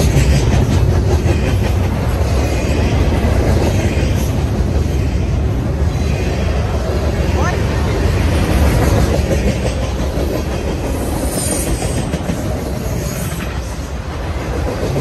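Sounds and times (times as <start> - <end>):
freight train wheels clacking on rails: 0.0 - 15.0.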